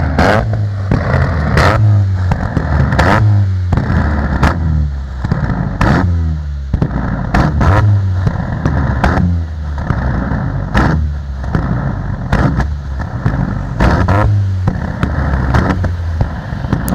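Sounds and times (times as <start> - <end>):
car engine revving: 0.0 - 16.9
sharp exhaust bangs: 0.0 - 16.9.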